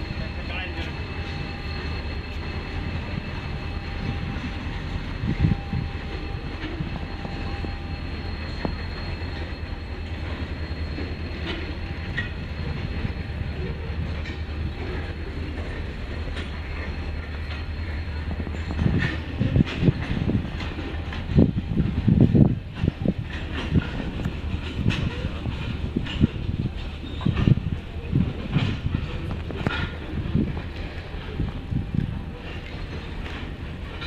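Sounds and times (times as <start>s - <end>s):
diesel locomotive engine rumble: 0.0s - 34.0s.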